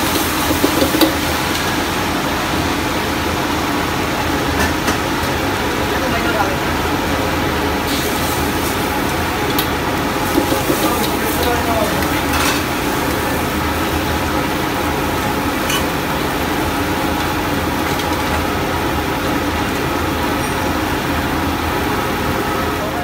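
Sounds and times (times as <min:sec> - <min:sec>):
gas burner rushing: 0:00.0 - 0:23.0.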